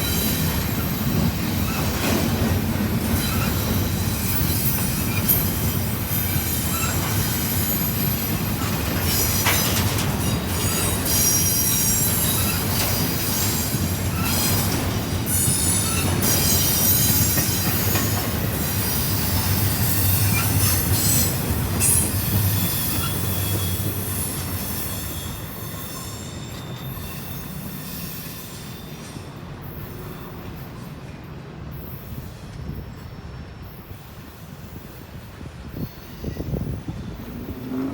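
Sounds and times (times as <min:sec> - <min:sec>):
train rumbling past: 0:00.0 - 0:37.9
train wheels squealing on rail: 0:00.0 - 0:37.9.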